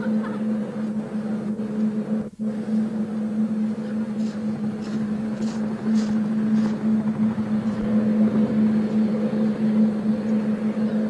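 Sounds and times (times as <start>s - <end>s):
helicopter hovering: 0.0s - 11.0s
rotor blades whooshing: 0.0s - 11.0s.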